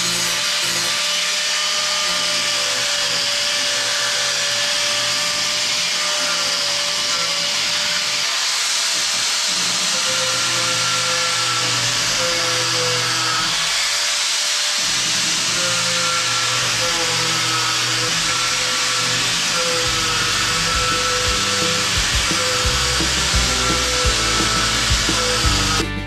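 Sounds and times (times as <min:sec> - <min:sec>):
power tool cutting fiberglass: 0:00.0 - 0:26.0.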